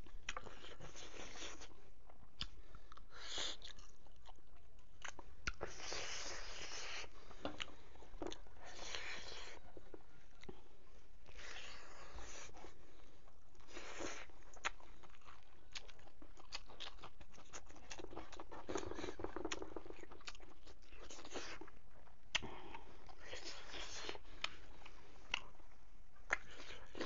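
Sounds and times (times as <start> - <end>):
close wet chewing: 0.0 - 27.0.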